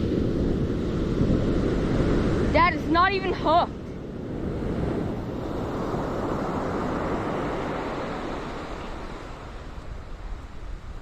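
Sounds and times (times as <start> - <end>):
ocean surf washing up beach: 0.0 - 11.0.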